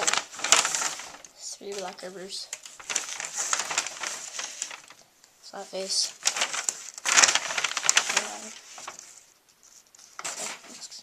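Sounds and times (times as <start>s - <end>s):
plastic envelope crinkling: 0.0s - 11.0s.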